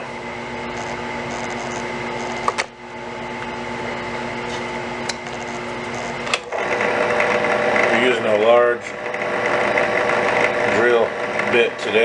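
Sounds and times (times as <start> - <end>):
drill press motor hum: 0.0 - 12.0.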